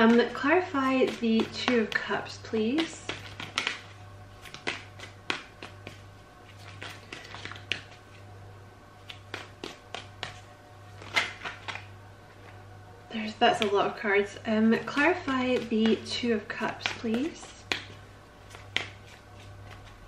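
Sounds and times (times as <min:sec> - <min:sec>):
cards being shuffled: 0:00.0 - 0:08.3, 0:09.0 - 0:12.6, 0:14.8 - 0:20.0
steady low hum: 0:00.0 - 0:20.0.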